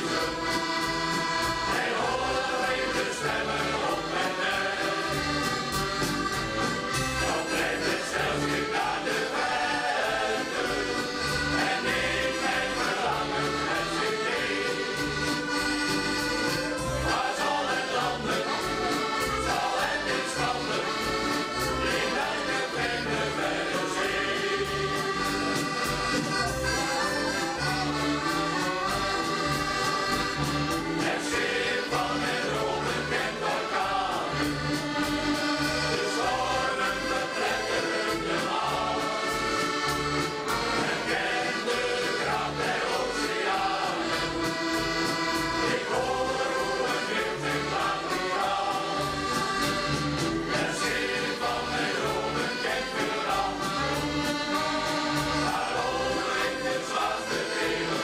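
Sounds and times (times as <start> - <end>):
choir singing in unison: 0.0 - 6.3, 7.0 - 15.3, 16.8 - 25.5, 30.8 - 58.0
accordion: 0.0 - 58.0.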